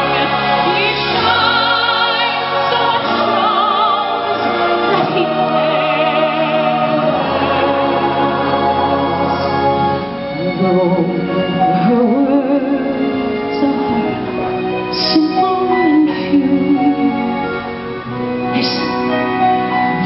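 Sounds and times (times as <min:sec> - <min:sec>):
sustained accompaniment: 0:00.0 - 0:20.0.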